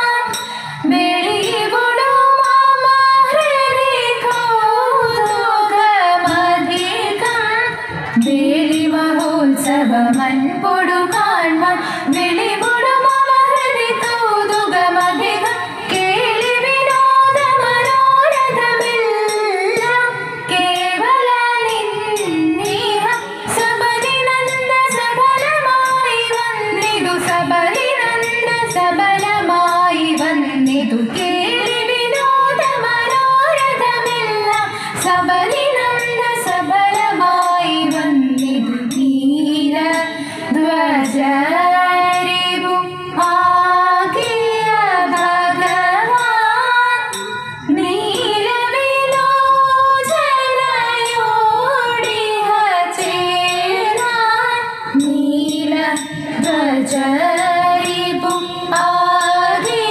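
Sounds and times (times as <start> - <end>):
women singing slow melody: 0.0 - 59.9.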